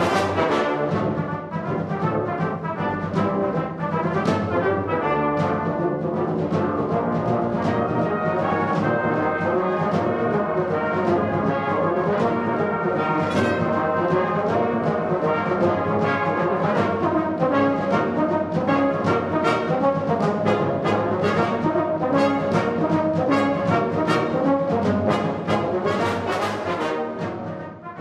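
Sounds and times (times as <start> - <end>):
orchestral music led by brass: 0.0 - 28.0.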